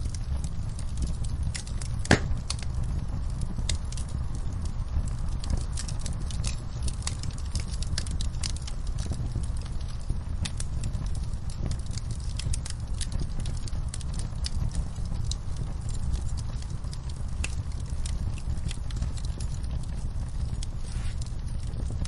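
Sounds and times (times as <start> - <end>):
low steady rumble: 0.0 - 22.0
wood fire crackling and popping: 0.0 - 22.0.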